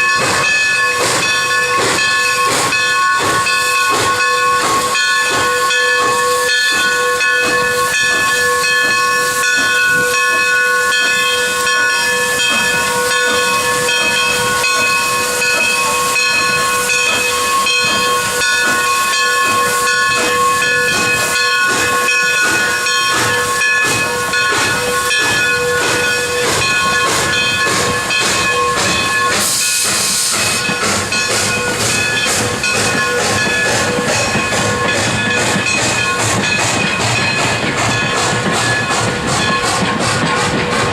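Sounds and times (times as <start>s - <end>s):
locomotive chuffs: 0.0s - 40.9s
steam locomotive venting steam: 0.0s - 40.9s.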